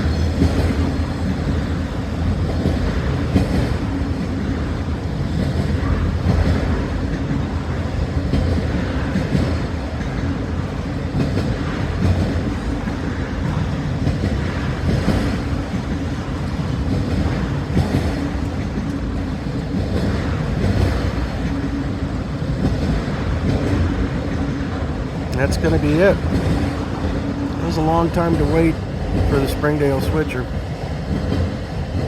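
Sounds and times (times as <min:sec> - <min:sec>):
freight train rumbling past: 0:00.0 - 0:32.0
wheels clacking over rail joints: 0:00.0 - 0:32.0.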